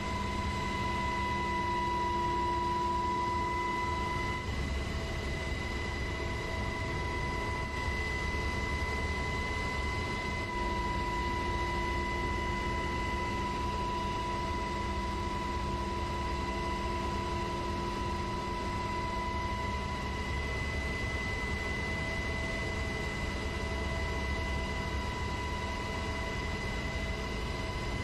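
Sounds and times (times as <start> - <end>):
aircraft engine and cabin noise: 0.0 - 28.0.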